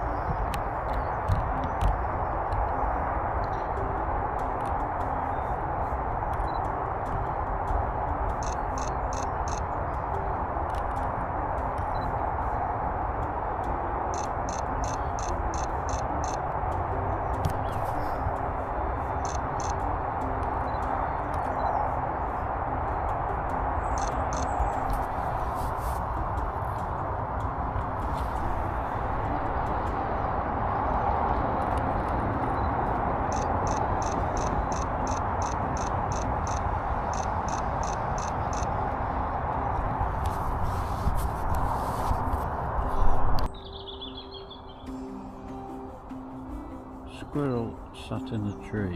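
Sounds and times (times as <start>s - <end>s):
steady background rush: 0.0s - 48.9s.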